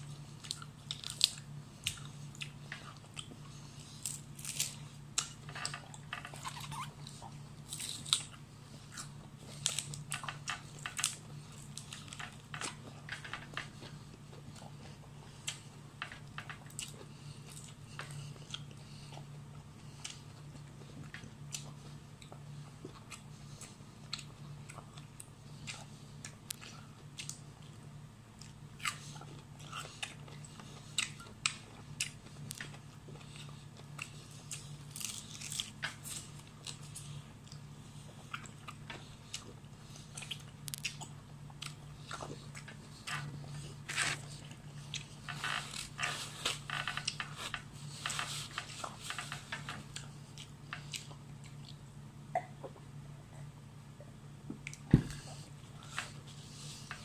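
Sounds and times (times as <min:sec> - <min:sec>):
person chewing and crunching: 0:00.0 - 0:52.9.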